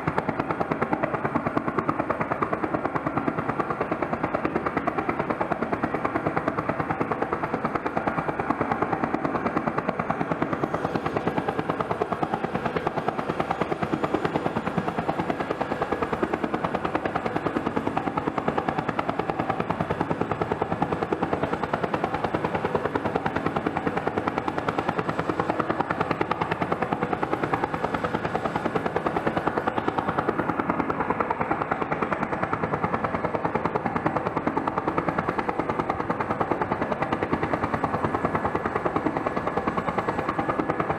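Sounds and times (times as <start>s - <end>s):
helicopter engine noise: 0.0s - 40.9s
helicopter rotor chop: 0.0s - 40.9s.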